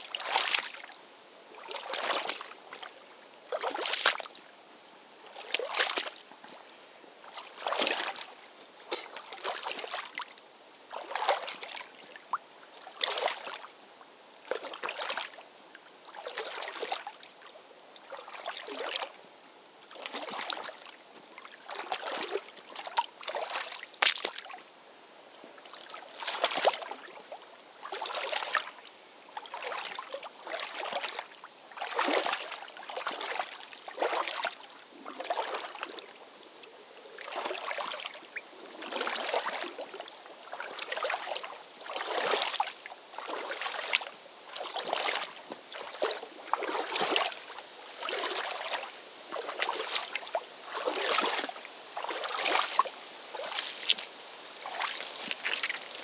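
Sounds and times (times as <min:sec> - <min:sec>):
waders sloshing through water: 0:00.0 - 0:00.9, 0:01.6 - 0:02.9, 0:03.5 - 0:04.4, 0:05.3 - 0:06.6, 0:07.2 - 0:10.3, 0:10.9 - 0:12.2, 0:12.8 - 0:13.6, 0:14.5 - 0:15.4, 0:16.1 - 0:17.1, 0:18.0 - 0:19.2, 0:19.9 - 0:24.6, 0:25.7 - 0:27.2, 0:27.8 - 0:28.8, 0:29.4 - 0:36.2, 0:37.1 - 0:56.0.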